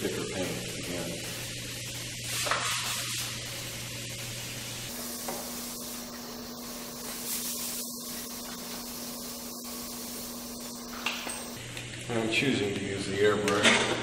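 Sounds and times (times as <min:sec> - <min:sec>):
airbrush air hissing: 0:00.0 - 0:11.6.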